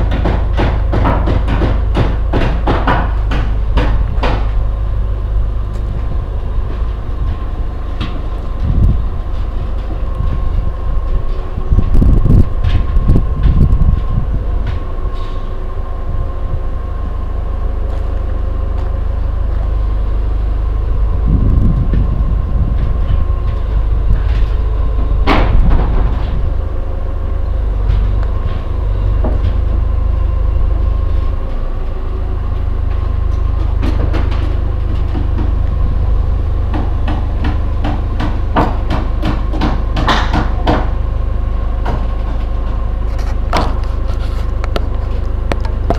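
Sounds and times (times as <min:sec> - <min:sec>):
construction knocks and clatter: 0:00.0 - 0:45.9
steady low rumble: 0:00.0 - 0:45.9.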